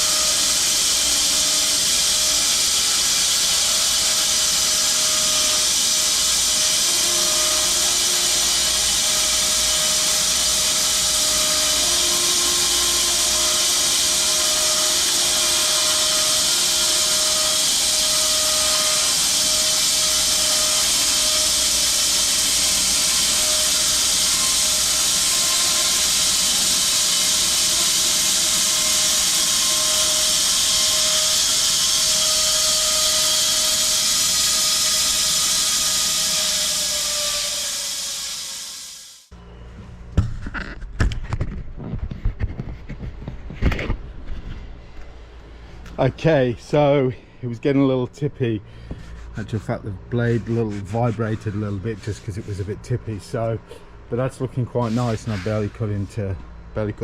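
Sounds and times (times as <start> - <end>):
bandsaw mill cutting log: 0.0 - 39.2, 48.8 - 56.3.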